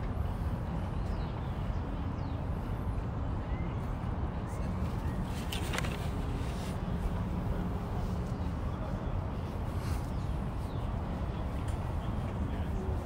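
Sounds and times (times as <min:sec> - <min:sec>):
faint scattered sounds: 0:00.0 - 0:13.0
low city rumble: 0:00.0 - 0:13.0.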